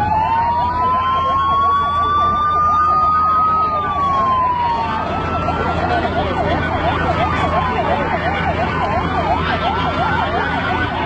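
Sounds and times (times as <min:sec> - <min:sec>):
siren wailing: 0:00.0 - 0:11.0
siren yelping: 0:00.0 - 0:11.0.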